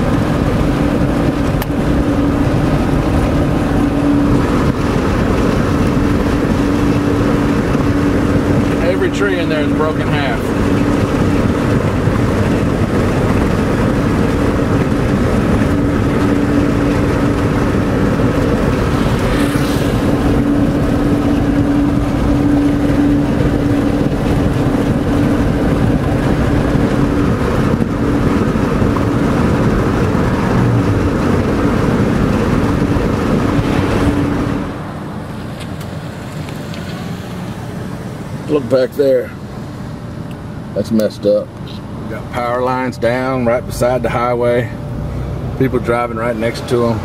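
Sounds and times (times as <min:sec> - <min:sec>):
car road and wind noise: 0:00.0 - 0:47.0
droning hum: 0:00.0 - 0:47.0.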